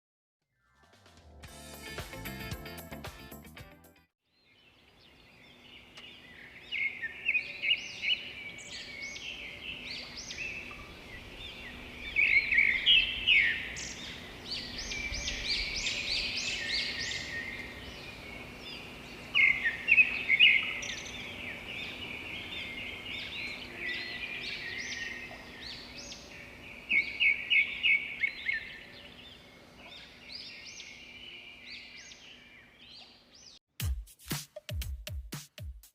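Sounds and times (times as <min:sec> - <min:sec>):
small birds chirping: 0:04.3 - 0:33.6.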